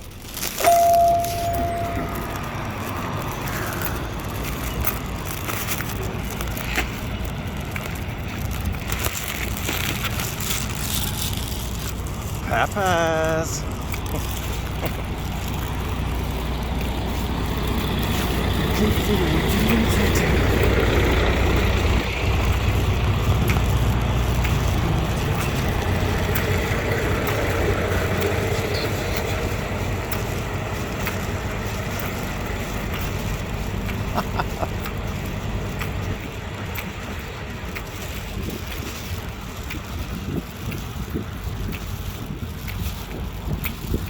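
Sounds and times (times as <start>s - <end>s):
semi truck engine rumbling: 0.0s - 44.0s.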